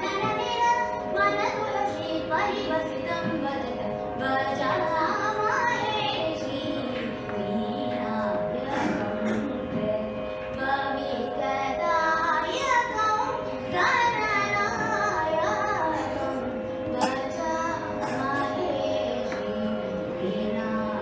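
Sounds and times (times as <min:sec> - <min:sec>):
electronic tanpura drone: 0:00.0 - 0:21.0
girl singing classical music: 0:00.0 - 0:21.0.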